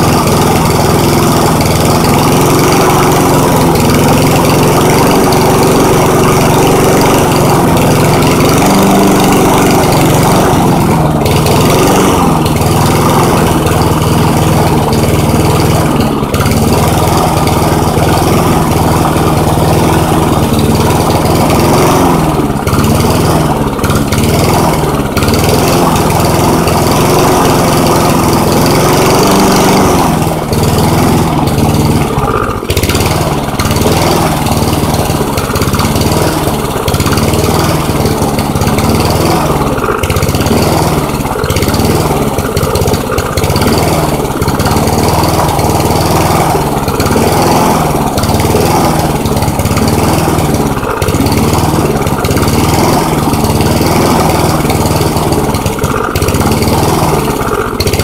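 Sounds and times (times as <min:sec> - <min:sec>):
lawn mower engine running unevenly: 0:00.0 - 0:58.0.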